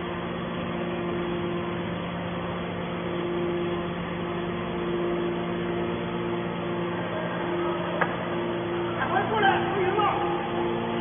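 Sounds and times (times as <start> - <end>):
hydraulic baler motor humming: 0.0 - 11.0.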